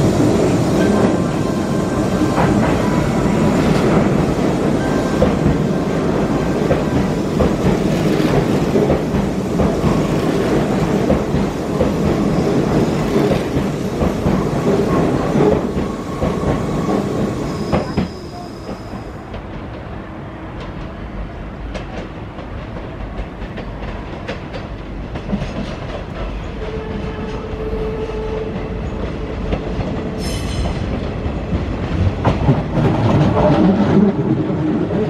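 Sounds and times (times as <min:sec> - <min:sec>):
train rolling rumble: 0:00.0 - 0:35.0.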